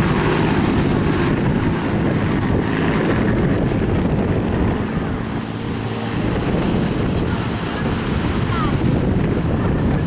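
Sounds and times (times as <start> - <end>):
propeller plane engine drone: 0.0 - 10.0
wind buffeting microphone: 0.0 - 10.0.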